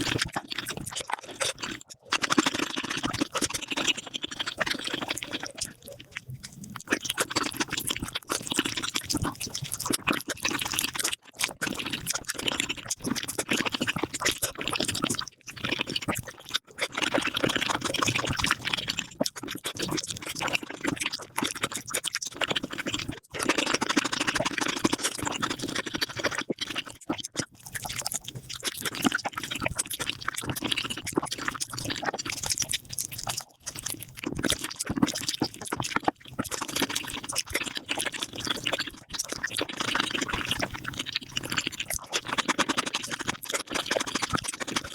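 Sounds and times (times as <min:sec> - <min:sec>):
chewing and wet crunching: 0:00.0 - 0:44.9.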